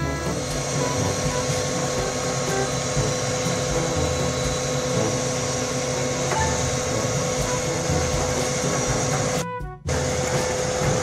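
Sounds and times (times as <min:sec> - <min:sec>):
hydraulic ladder hum and whine: 0:00.0 - 0:11.0.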